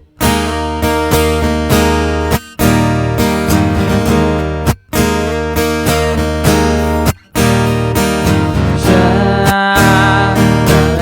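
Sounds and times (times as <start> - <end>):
steady bass line: 0.0 - 11.0
strummed acoustic guitar: 0.0 - 11.0.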